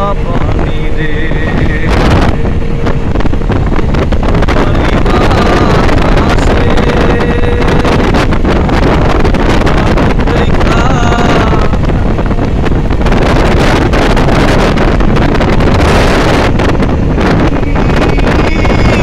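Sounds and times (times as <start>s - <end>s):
vehicle and tyre rumble: 0.0s - 19.0s
wind buffeting microphone: 0.0s - 19.0s.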